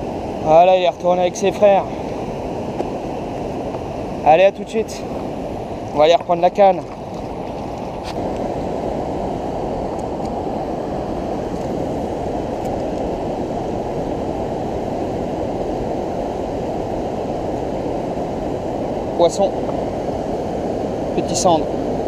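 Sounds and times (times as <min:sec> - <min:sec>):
river water rushing over rapids: 0:00.0 - 0:22.0.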